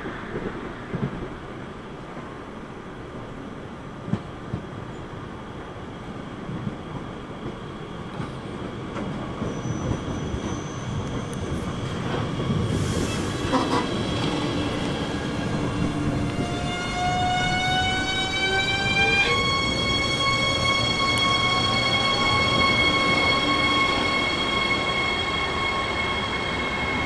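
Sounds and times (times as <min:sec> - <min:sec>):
train wheels on rails: 0:00.0 - 0:02.6, 0:03.2 - 0:27.0.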